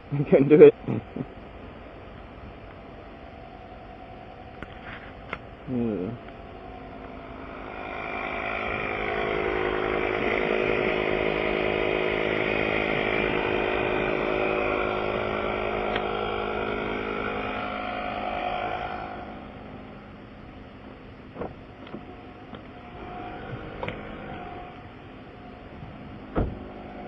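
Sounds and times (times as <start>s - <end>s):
motor running steadily: 0.0s - 27.0s.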